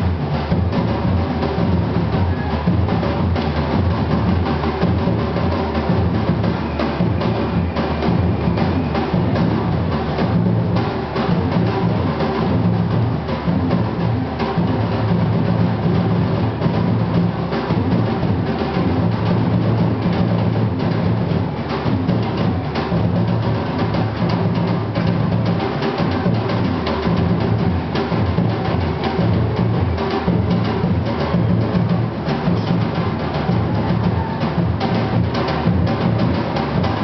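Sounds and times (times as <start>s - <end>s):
heavy bass drums: 0.0s - 37.0s
samba drum ensemble: 0.0s - 37.0s.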